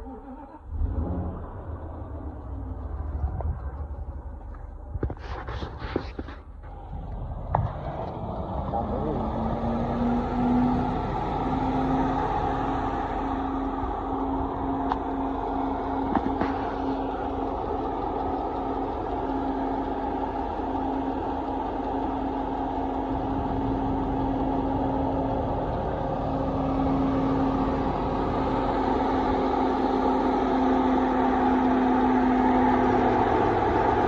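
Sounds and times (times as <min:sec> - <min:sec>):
engine idling: 0:00.0 - 0:34.0
engine ticking noise: 0:00.0 - 0:34.0.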